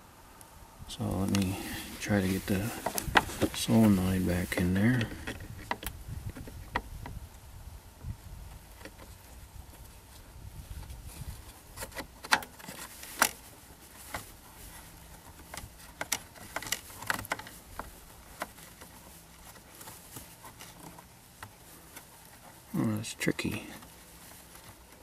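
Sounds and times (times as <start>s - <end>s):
handling rustles: 0.9s - 7.5s, 8.1s - 25.0s.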